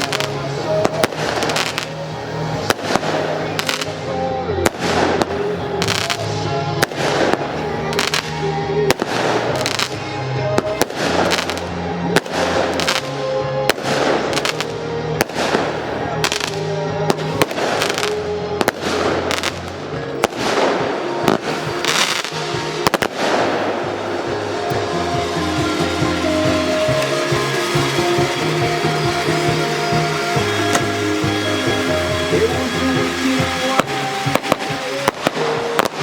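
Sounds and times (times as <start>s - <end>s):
background music: 0.0s - 36.0s
firework bangs: 0.0s - 36.0s.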